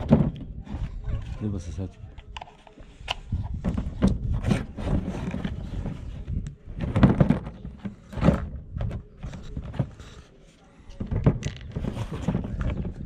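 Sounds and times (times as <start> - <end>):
hard plastic parts clicking and knocking: 0.0 - 10.2, 10.9 - 13.0.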